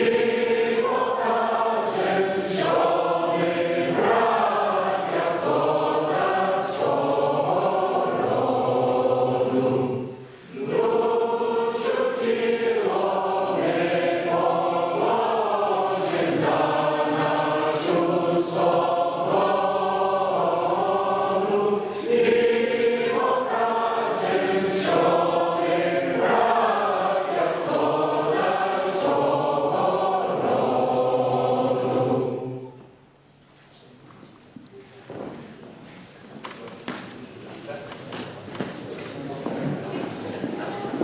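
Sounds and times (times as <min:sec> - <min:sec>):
choir singing: 0:00.0 - 0:33.1.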